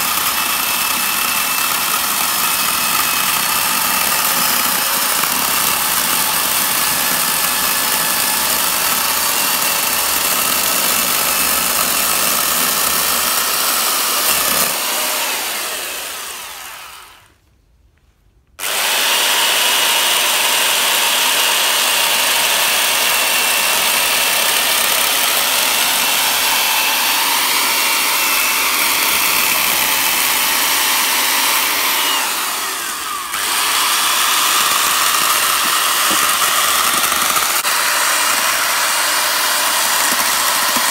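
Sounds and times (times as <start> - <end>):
small chainsaw running: 0.0 - 17.4, 18.6 - 40.9.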